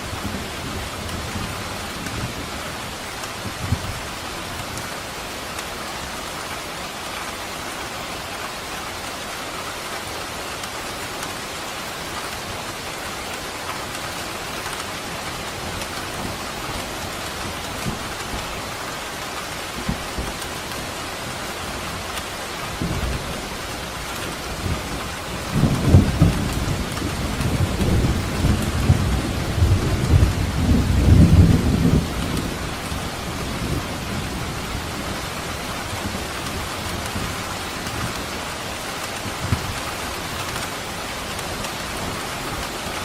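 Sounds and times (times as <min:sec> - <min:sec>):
dense rain falling: 0:00.0 - 0:43.0.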